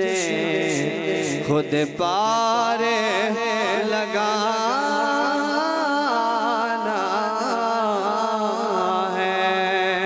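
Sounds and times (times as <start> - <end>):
man singing into microphone: 0.0 - 10.0.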